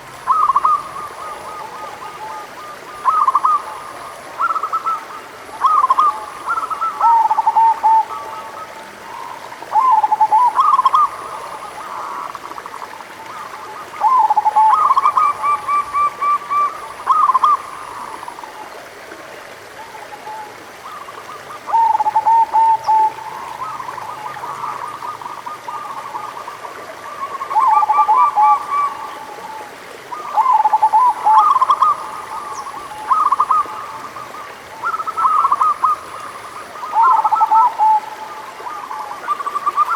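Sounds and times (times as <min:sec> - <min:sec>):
doves cooing: 0:00.0 - 0:18.7, 0:20.3 - 0:39.9
steady hiss: 0:00.0 - 0:39.9.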